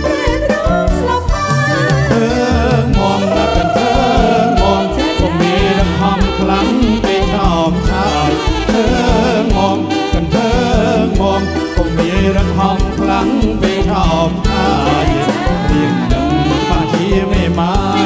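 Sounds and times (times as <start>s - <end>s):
live band playing dance song: 0.0s - 18.0s
singers with vibrato: 0.0s - 18.0s.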